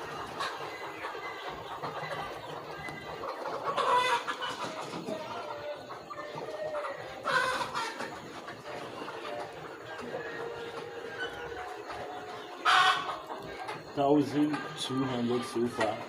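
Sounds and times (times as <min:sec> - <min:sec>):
chickens clucking: 0:00.0 - 0:16.0
loud chicken calls: 0:00.0 - 0:16.0.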